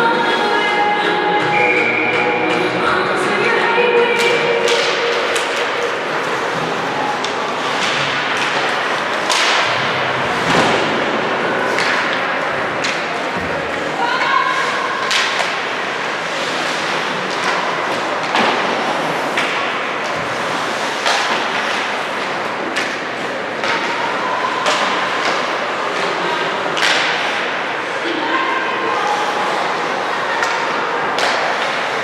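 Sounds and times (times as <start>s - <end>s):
crowd murmur: 0.0s - 32.0s.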